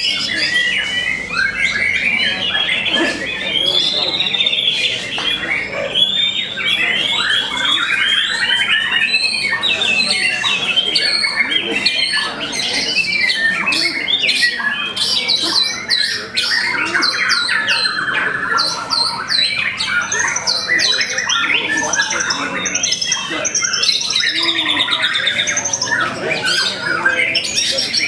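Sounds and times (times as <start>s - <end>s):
songbirds chorus of whistles and trills: 0.0s - 28.0s.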